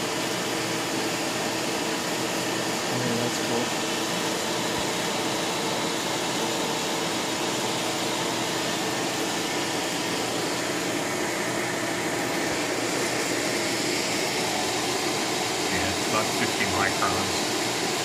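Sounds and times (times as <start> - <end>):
vacuum pump whirring hiss: 0.0 - 18.0.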